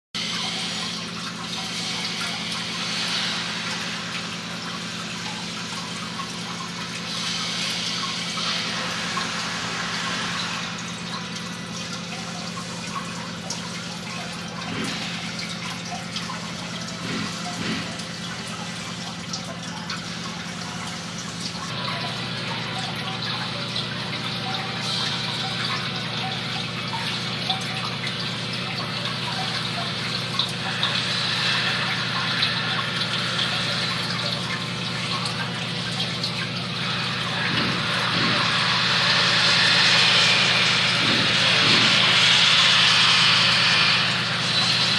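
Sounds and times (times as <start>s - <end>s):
water falling and splashing: 0.2s - 44.9s.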